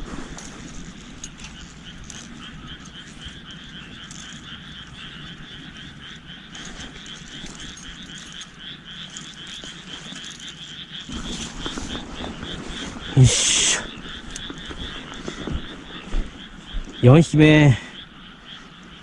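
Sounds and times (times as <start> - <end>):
frogs croaking: 0.0 - 19.0.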